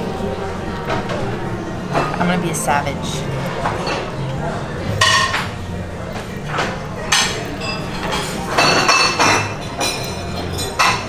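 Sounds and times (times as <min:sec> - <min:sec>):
dishes and cutlery clinking: 0:00.2 - 0:02.4, 0:03.2 - 0:11.0.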